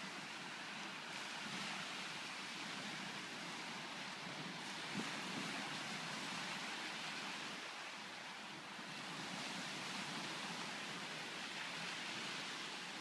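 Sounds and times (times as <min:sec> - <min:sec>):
surf washing onto beach: 0:00.0 - 0:13.0.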